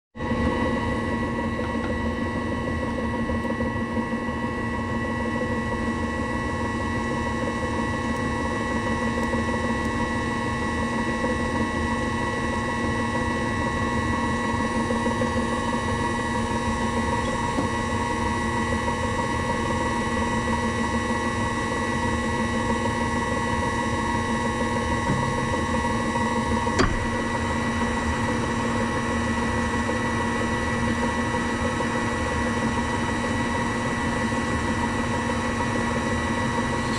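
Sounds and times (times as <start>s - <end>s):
electric motor humming and whining: 0.2s - 36.9s.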